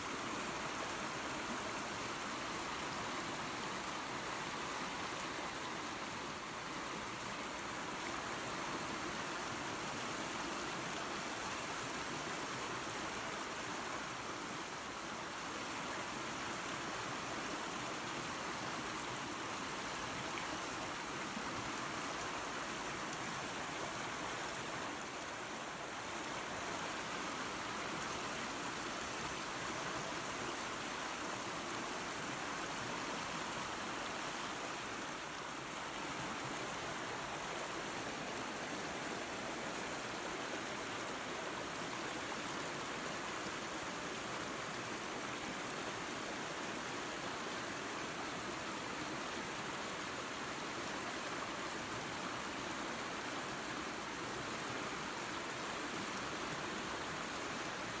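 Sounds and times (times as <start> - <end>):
creek and waterfall rushing: 0.0 - 58.0.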